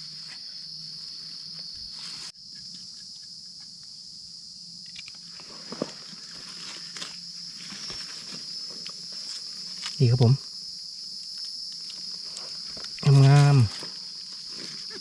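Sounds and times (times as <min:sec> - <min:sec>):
forest insects chorus: 0:00.0 - 0:15.0.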